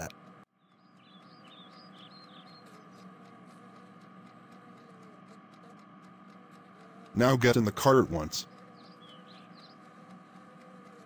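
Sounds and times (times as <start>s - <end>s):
faint birds chirping: 0.0s - 11.0s
low steady hum: 0.0s - 11.0s.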